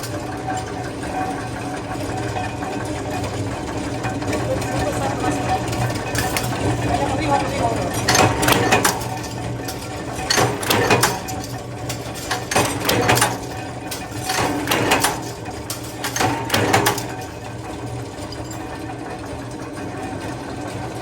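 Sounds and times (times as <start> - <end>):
rapid metallic clatter: 0.0 - 19.8
machine humming: 0.0 - 20.3.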